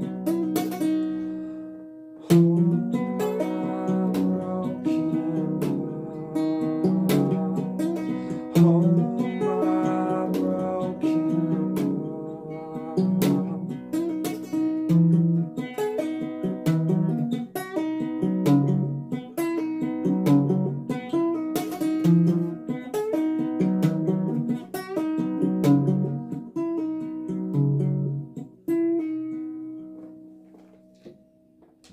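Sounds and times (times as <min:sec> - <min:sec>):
acoustic guitar picking: 0:00.0 - 0:31.9.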